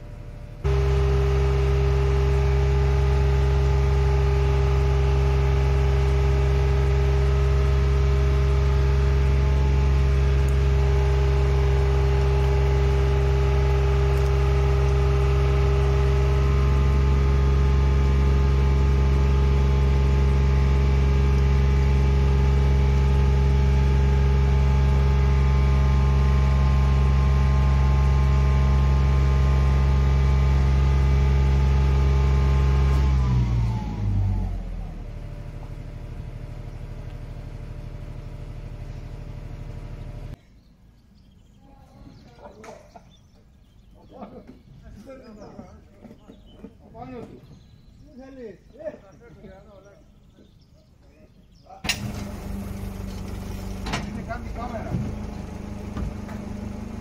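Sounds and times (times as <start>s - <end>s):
engine droning: 0.0s - 40.4s, 51.5s - 57.0s.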